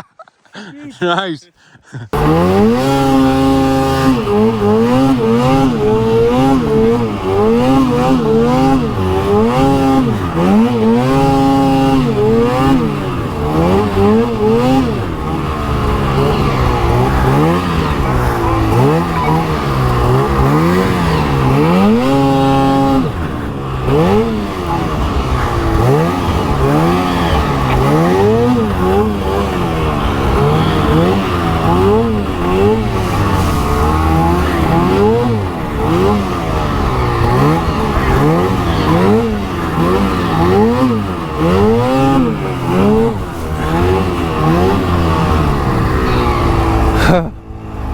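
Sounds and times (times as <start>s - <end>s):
snowmobile engine revving: 1.8s - 47.9s.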